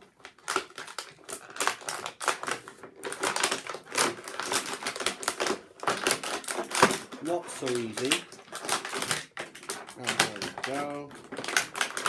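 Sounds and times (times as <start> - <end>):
plastic packaging clicks and rustles: 0.0 - 12.0.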